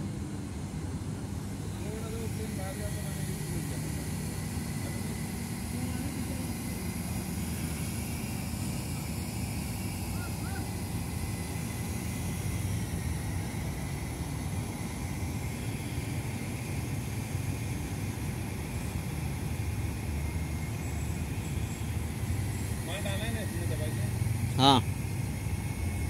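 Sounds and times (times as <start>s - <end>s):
crane diesel engine running: 0.0s - 26.0s.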